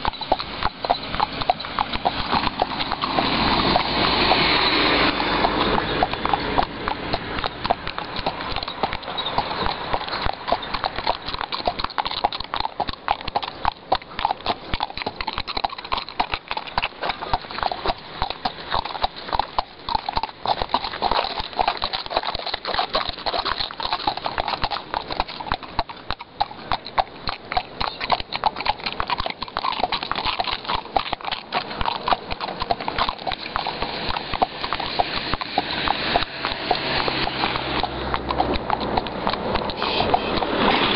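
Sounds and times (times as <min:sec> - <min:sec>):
hooves clip-clopping on asphalt: 0:00.0 - 0:40.9.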